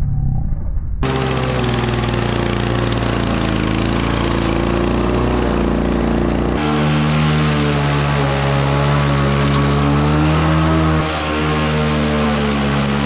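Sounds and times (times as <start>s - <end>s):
small petrol engine running: 1.0s - 13.0s.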